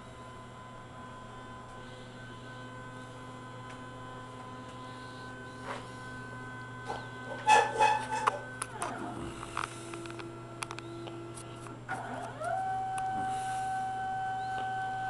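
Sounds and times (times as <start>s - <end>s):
lathe motors humming: 0.0s - 15.0s.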